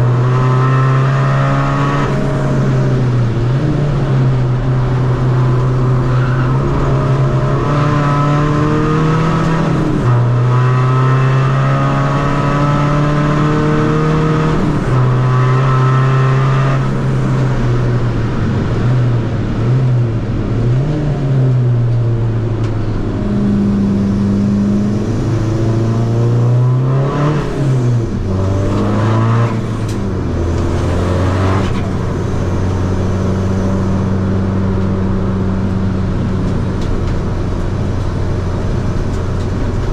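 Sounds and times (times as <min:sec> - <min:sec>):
diesel car engine revving: 0:00.0 - 0:39.9.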